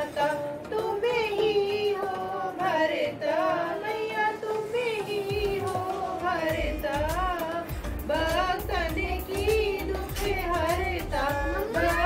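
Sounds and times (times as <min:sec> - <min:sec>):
women singing a hymn: 0:00.0 - 0:12.0.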